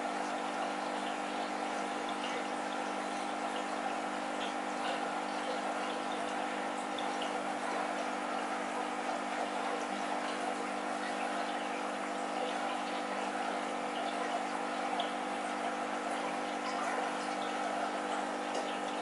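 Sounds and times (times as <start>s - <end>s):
aquarium filter bubbling water: 0.0s - 19.0s.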